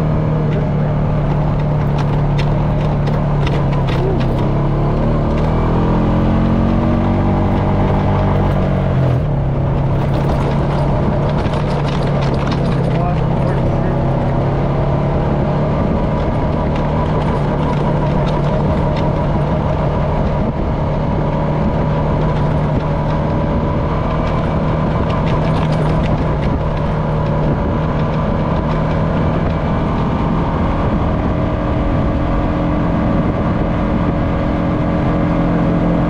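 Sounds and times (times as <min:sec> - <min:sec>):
atv engine running: 0:00.0 - 0:36.0
tyre and trail noise: 0:00.0 - 0:36.0.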